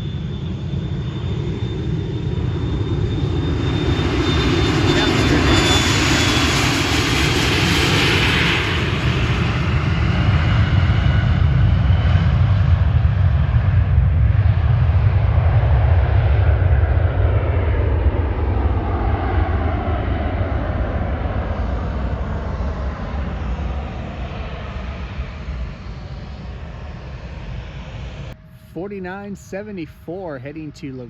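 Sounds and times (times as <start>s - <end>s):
jet engines whining and rumbling: 0.0s - 31.0s.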